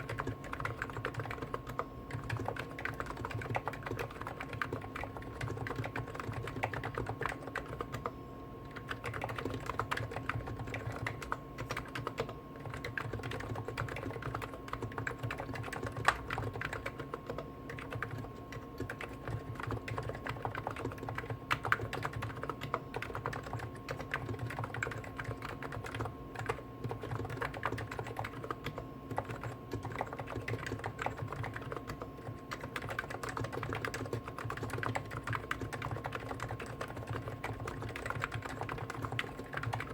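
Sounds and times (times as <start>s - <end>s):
faint steady hum: 0.0s - 39.9s
fast keyboard typing: 0.0s - 39.9s.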